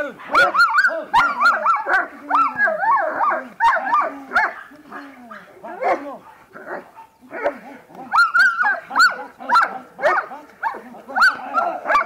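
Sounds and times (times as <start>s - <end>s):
dogs barking excitedly: 0.0s - 12.0s.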